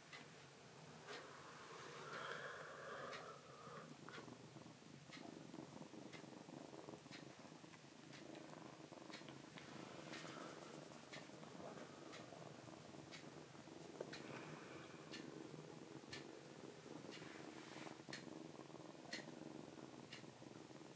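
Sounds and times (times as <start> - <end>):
kitten purring: 1.0 - 20.9.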